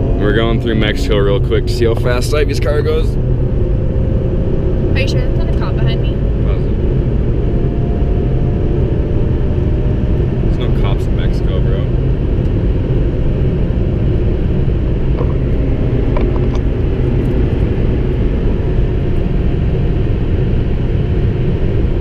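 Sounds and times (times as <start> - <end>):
car engine rumble: 0.0 - 22.0
wind noise in car cabin: 0.0 - 22.0.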